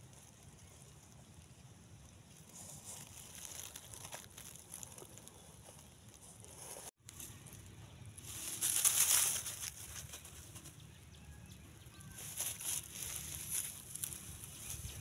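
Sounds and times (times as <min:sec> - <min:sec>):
rustling in dry straw: 0:00.0 - 0:15.0.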